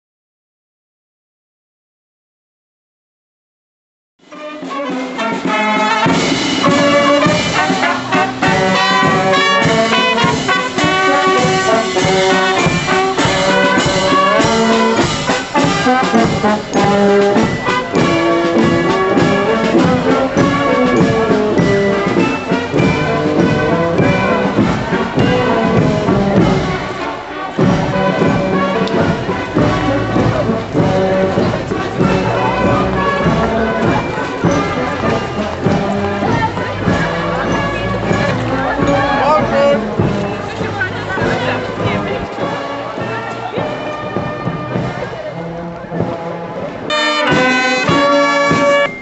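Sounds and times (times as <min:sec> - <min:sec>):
marching brass band playing: 0:04.2 - 0:49.0.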